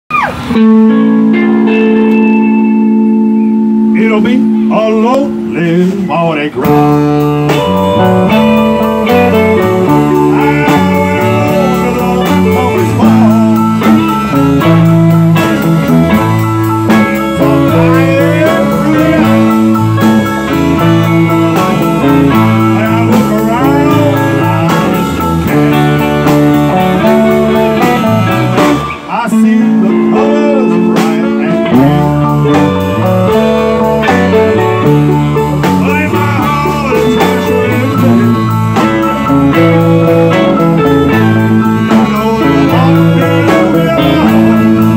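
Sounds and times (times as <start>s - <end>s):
bass and drums: 0.0s - 44.9s
electric guitar lead: 0.1s - 44.9s.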